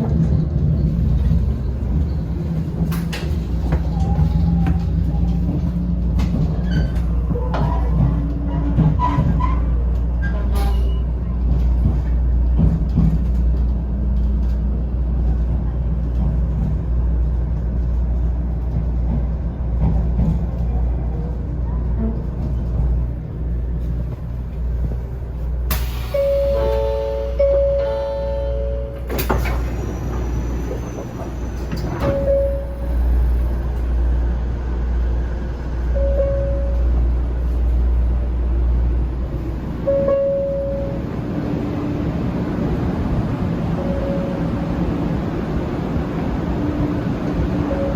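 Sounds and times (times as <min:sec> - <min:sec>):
train rumbling: 0:00.0 - 0:47.9.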